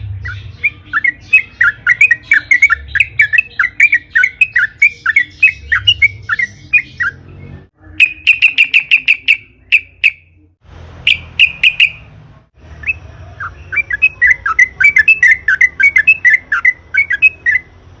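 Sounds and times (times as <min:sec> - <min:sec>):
bird singing bubbling notes: 0:00.2 - 0:07.2, 0:07.9 - 0:10.3, 0:11.1 - 0:12.0, 0:12.8 - 0:17.7.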